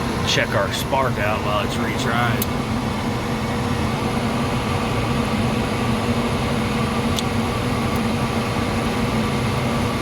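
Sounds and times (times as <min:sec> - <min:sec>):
heating unit mechanical hum: 0:00.0 - 0:10.0.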